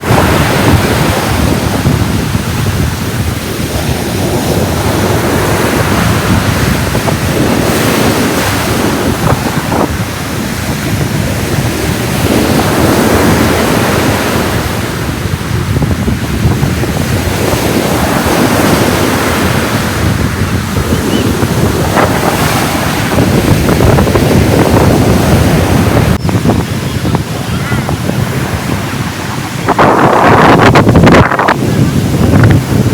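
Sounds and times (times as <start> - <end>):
ocean waves breaking on beach: 0.0 - 32.9
wind buffeting microphone: 0.0 - 32.9.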